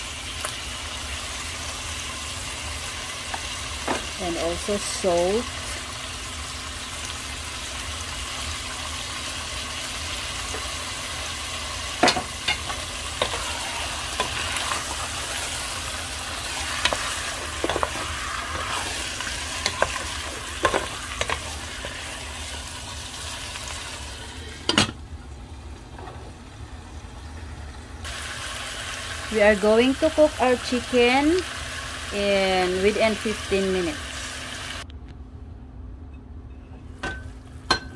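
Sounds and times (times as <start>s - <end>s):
meat sizzling in oil: 0.0s - 24.6s, 28.0s - 34.8s.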